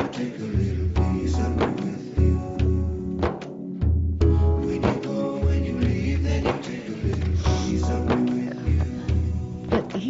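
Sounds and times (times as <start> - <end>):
film music: 0.0 - 10.0.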